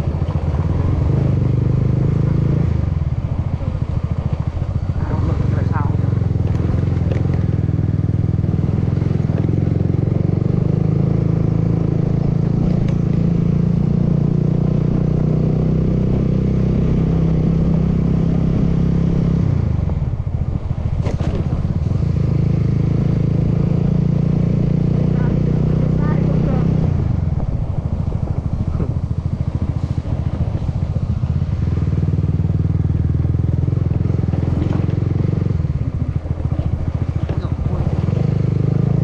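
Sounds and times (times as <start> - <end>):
scooter engine running: 0.0 - 39.0.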